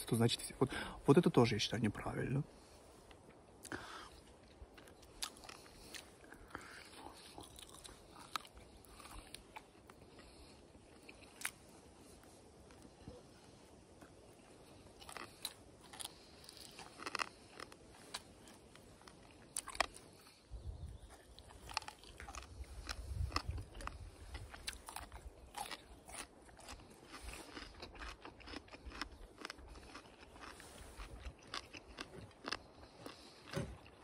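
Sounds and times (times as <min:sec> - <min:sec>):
person chewing crunchy food: 0:03.1 - 0:34.0.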